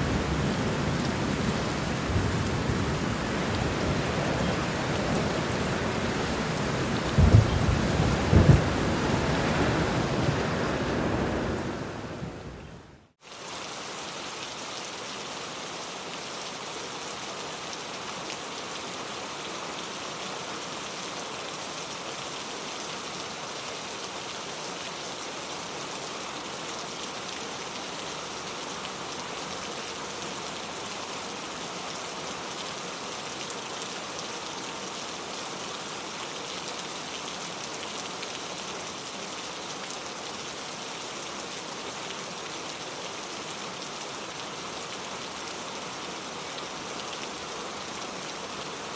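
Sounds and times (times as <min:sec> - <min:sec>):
rain falling steadily: 0:00.0 - 0:48.9.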